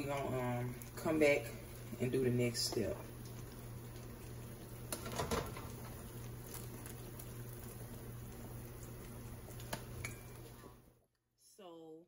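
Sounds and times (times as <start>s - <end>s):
water dripping: 0.0s - 10.6s
steady low hum: 0.0s - 11.8s.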